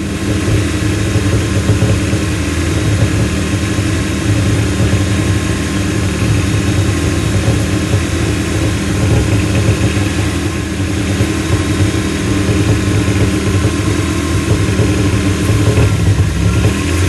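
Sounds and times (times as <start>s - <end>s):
boat engine idling fast: 0.0s - 17.0s.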